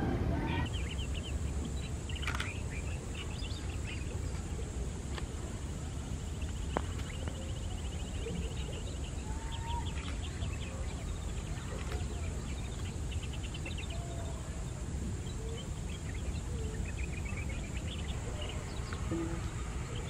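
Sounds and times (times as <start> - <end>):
small birds chirping: 0.4 - 20.0.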